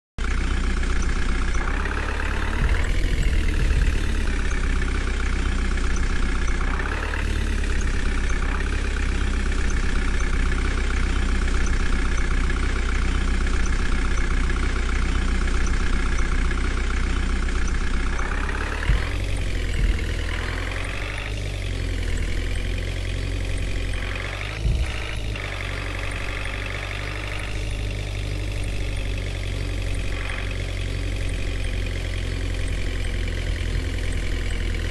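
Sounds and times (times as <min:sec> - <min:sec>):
diesel engine under load: 0:00.2 - 0:34.9.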